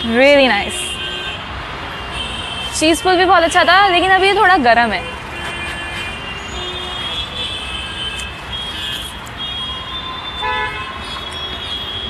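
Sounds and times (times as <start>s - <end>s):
car horns honking: 0.0s - 12.0s
road traffic: 0.0s - 12.0s.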